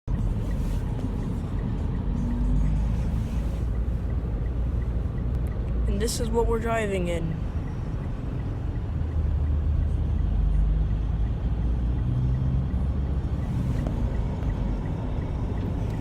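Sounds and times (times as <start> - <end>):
vehicle cabin road rumble: 0.0 - 16.0.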